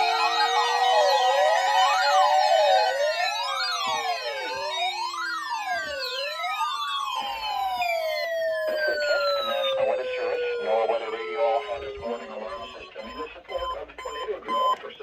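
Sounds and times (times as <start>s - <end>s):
warning sirens wailing: 0.0s - 15.0s.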